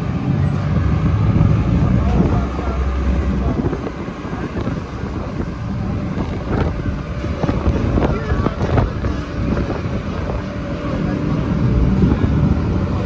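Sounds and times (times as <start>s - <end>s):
diesel truck engine rumble: 0.0s - 13.0s
wind buffeting microphone: 0.0s - 13.0s.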